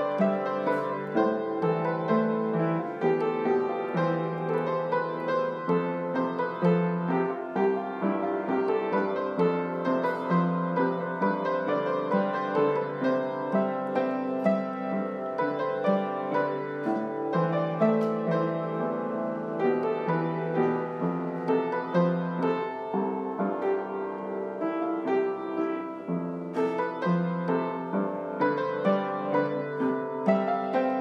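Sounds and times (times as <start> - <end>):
piano melody: 0.0 - 31.0.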